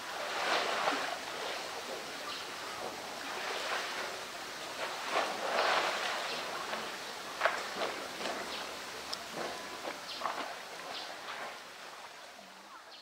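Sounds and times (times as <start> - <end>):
water splashing and sloshing: 0.0 - 12.6.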